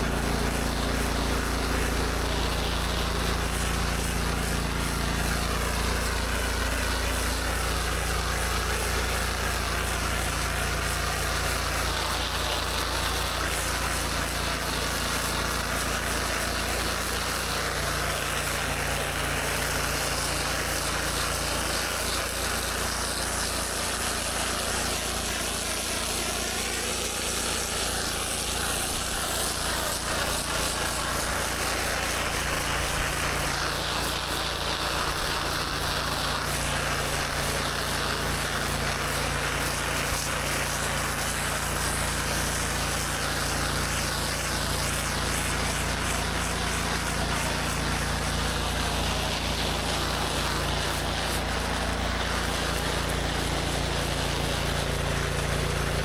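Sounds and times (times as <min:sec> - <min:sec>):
pressure washer engine running: 0:00.0 - 0:56.0
water spraying on concrete: 0:00.0 - 0:56.0.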